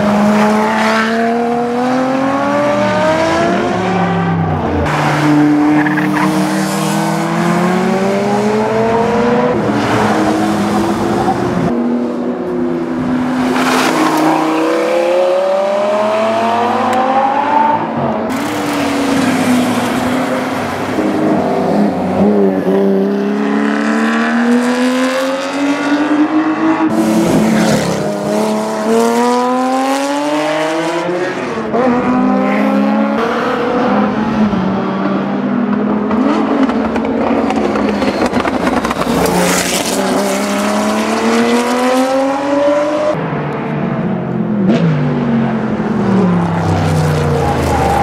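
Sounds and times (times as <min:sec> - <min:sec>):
race car engines accelerating: 0:00.0 - 0:48.0.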